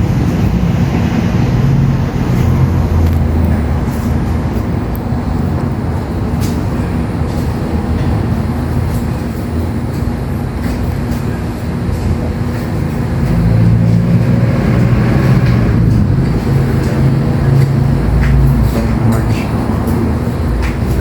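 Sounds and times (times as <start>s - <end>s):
low mechanical drone with hum: 0.0s - 21.0s.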